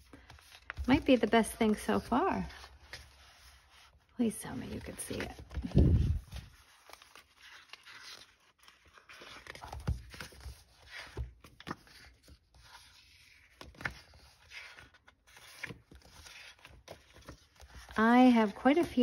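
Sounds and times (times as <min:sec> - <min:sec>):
paper pages rustling: 0:00.0 - 0:19.0.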